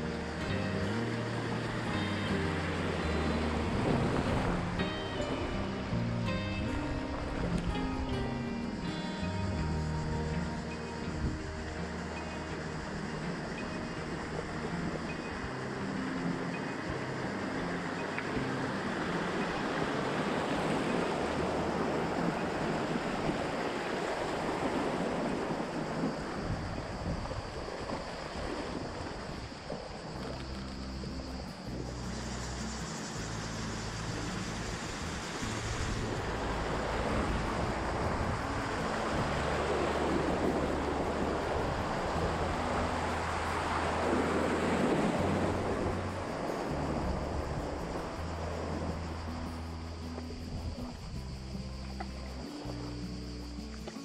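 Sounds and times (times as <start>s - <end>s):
river rapids rushing and splashing: 0.0s - 9.1s, 9.8s - 50.2s
wind on microphone: 0.0s - 54.0s.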